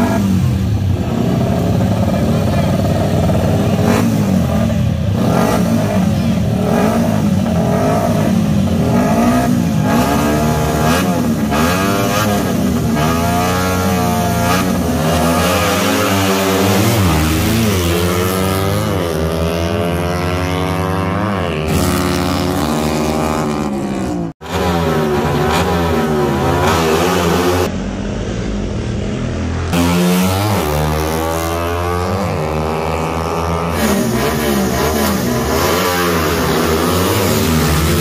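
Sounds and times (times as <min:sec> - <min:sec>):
motorcycles revving: 0:00.0 - 0:38.0.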